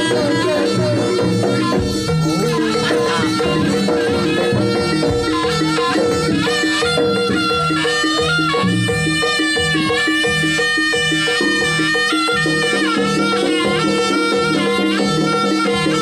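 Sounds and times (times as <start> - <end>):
regular percussion beat: 0.0 - 16.0
traditional accompaniment music: 0.0 - 16.0.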